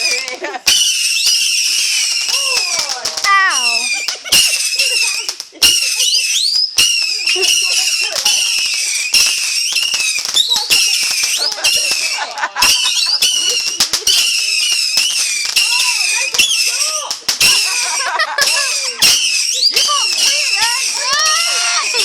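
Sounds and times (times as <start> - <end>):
fireworks cracks and bangs: 0.0 - 22.0
fireworks squealing tones: 0.0 - 22.0.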